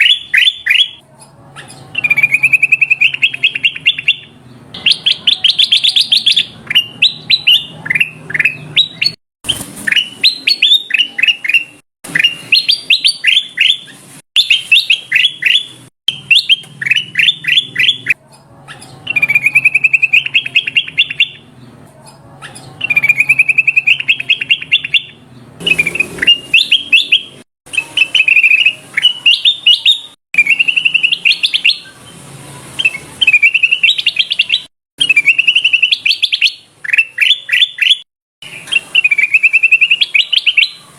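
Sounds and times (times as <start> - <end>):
bird chirping and trilling: 0.0 - 32.2, 32.8 - 40.9.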